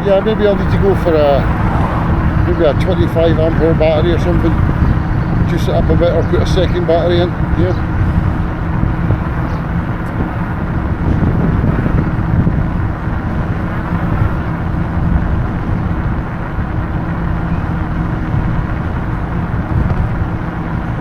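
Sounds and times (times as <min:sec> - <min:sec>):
road noise: 0:00.0 - 0:21.0
wind rushing over microphone: 0:00.0 - 0:21.0.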